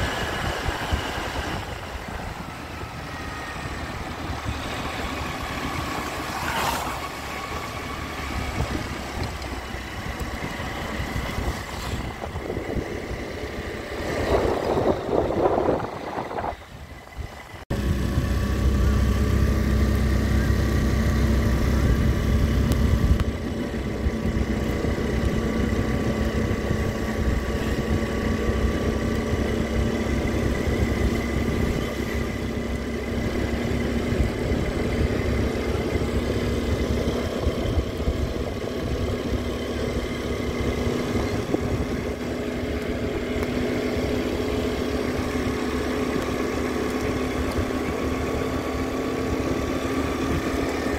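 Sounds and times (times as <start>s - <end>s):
heavy low rumble: 0.0s - 50.9s
motorbike engine cruising: 0.0s - 50.9s
road and wind noise: 0.0s - 50.9s.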